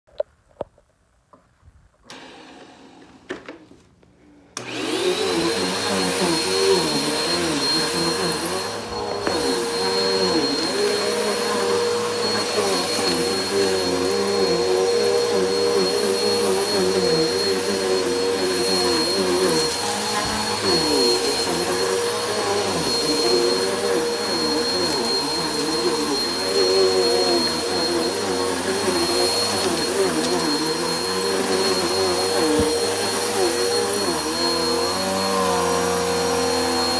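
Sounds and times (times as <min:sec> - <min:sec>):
vacuum cleaner running over carpet: 0:02.1 - 0:03.2, 0:04.6 - 0:36.9.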